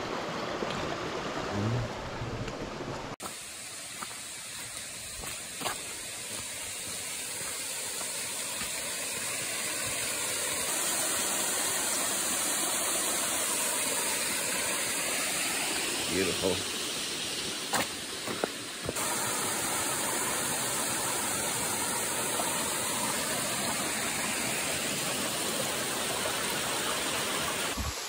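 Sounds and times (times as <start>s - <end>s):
mountain stream rushing: 0.0s - 28.0s.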